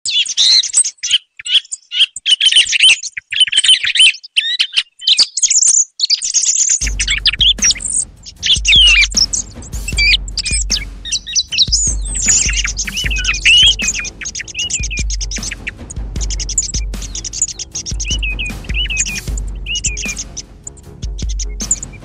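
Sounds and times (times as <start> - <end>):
song thrush singing: 0.1 - 22.0.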